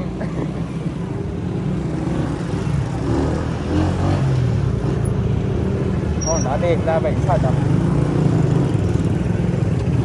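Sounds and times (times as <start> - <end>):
motorcycle engine rumble: 0.0 - 10.0
road noise: 0.0 - 10.0.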